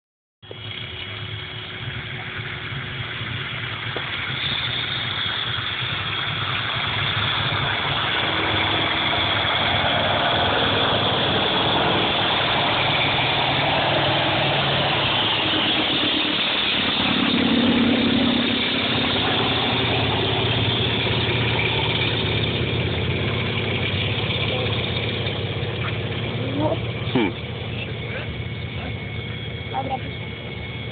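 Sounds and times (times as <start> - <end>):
propeller plane engine droning: 0.4 - 30.9.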